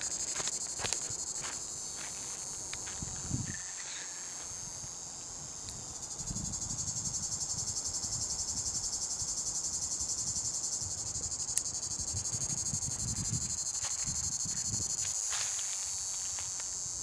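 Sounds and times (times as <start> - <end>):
cicada buzzing: 0.0 - 17.0.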